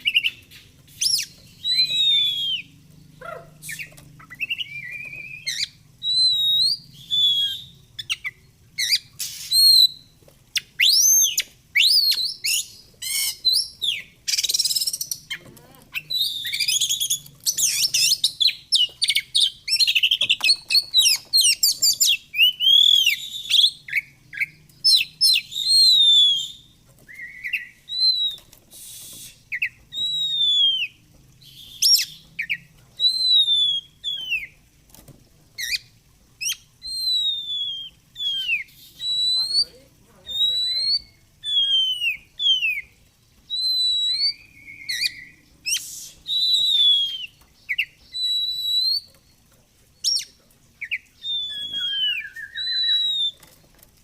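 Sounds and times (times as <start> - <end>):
bird singing varied song: 0.0 - 34.6, 35.6 - 53.7.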